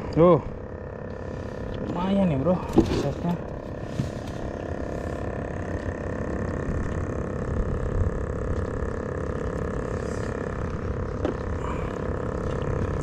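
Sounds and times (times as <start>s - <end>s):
steady mechanical drone: 0.0s - 13.0s.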